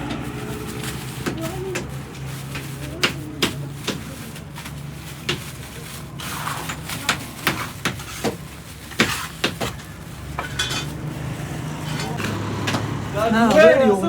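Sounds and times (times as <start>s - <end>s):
hard objects knocking: 0.0s - 13.7s.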